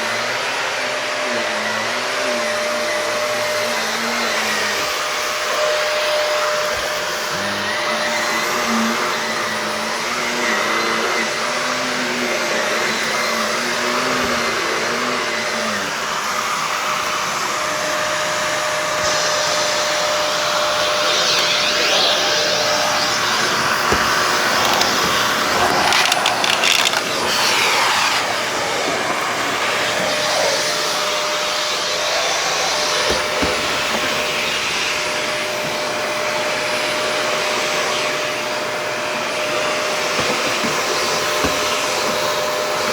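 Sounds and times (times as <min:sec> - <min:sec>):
vacuum cleaner running on carpet: 0:00.0 - 0:42.9.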